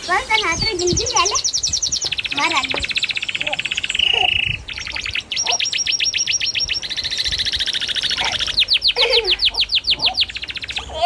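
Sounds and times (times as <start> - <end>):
baby bird chirping: 0.0 - 11.0.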